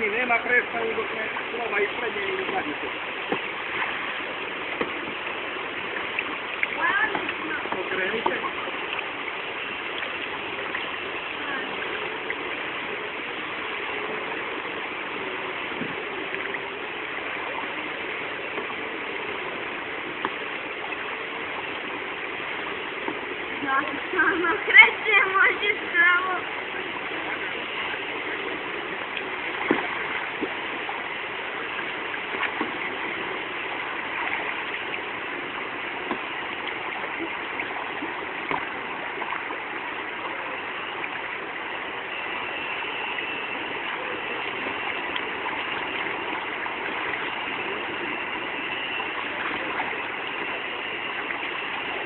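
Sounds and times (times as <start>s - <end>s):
river water flowing: 0.0s - 52.0s.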